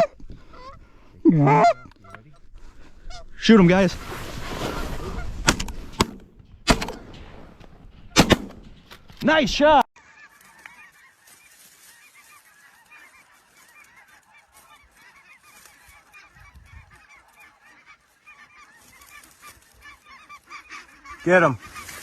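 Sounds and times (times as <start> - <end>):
faint geese honking: 0.0 - 22.0.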